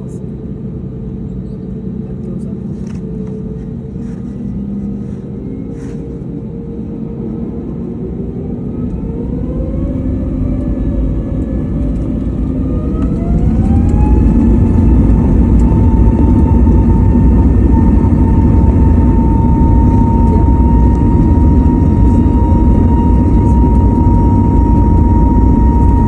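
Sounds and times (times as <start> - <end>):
jet engine rumble: 0.0 - 26.0
jet engine whine: 0.0 - 26.0.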